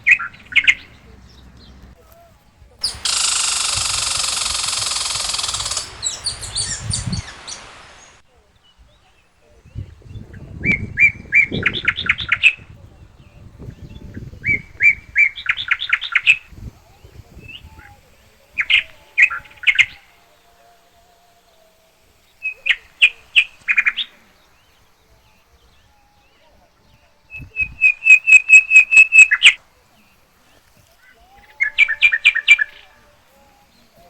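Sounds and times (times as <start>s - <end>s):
songbird chirping and rattling: 0.0s - 2.1s, 2.8s - 34.0s.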